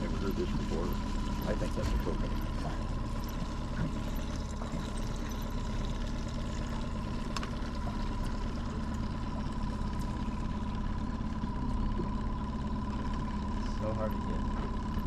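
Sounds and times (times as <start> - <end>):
boat motor droning: 0.0 - 15.0
water washing along hull: 0.0 - 15.0.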